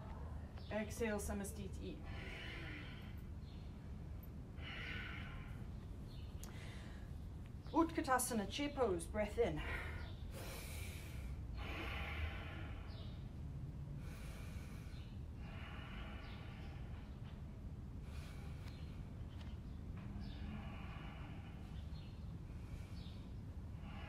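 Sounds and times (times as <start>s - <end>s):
low background rumble: 0.0s - 24.0s
woman breathing slowly: 1.9s - 7.6s, 9.6s - 24.0s.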